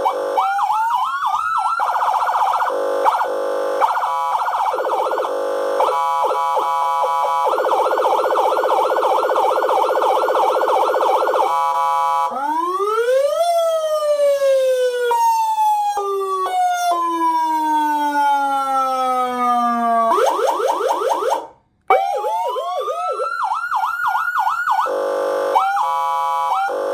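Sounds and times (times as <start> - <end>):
electronic siren wailing and yelping: 0.0 - 26.9.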